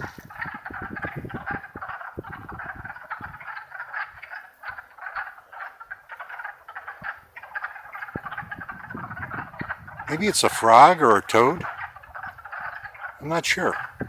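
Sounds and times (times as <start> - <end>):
chorus of frogs clucking: 0.0 - 14.0.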